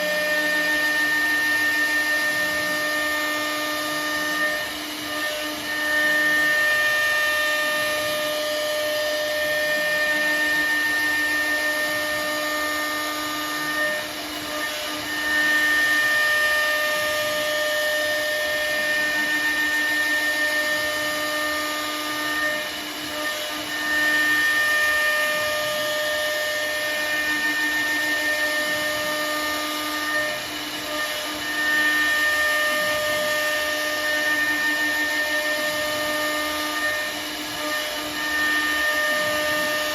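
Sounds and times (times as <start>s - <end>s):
router spindle high-pitched whine: 0.0s - 39.9s.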